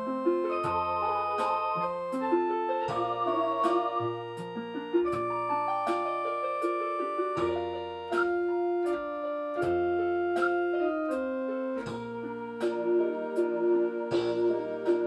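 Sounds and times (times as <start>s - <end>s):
electronic keyboard piano tune: 0.0s - 15.0s.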